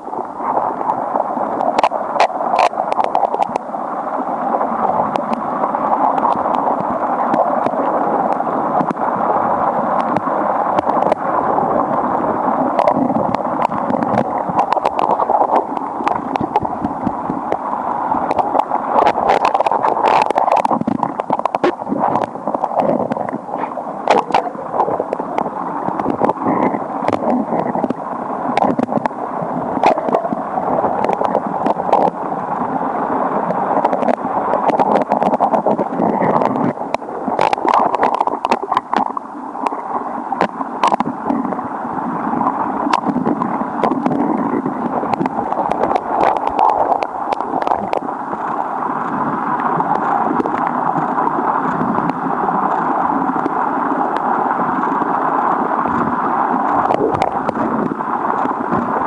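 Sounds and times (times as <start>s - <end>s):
underwater river current rushing: 0.0s - 59.0s.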